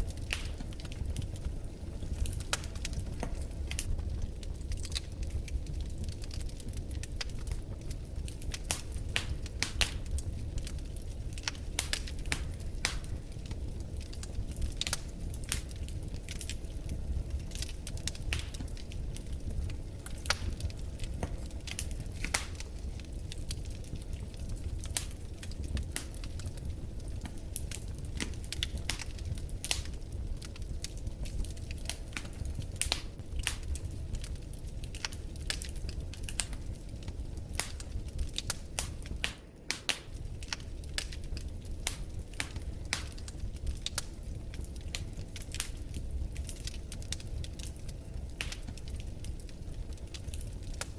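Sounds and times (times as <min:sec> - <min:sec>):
low rumble of flames: 0:00.0 - 0:50.9
wood fire crackling: 0:00.0 - 0:50.9.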